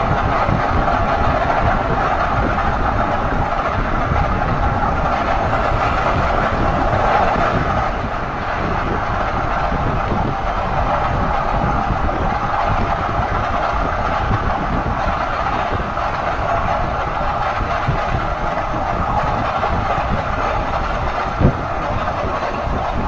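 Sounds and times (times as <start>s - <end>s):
road and drivetrain rumble: 0.0s - 22.9s
constant droning hum: 0.0s - 23.0s.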